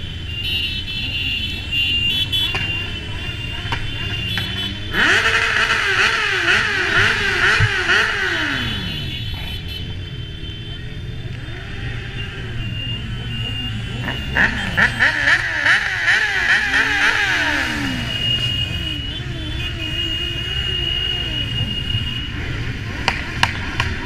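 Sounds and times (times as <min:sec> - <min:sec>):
motorcycle engines revving: 0:00.0 - 0:24.0
motorcycle engines rumbling: 0:00.0 - 0:24.0.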